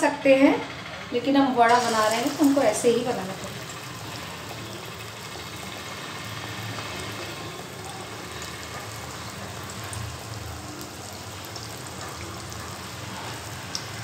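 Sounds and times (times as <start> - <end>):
batter sizzling in hot oil: 1.7 - 14.0.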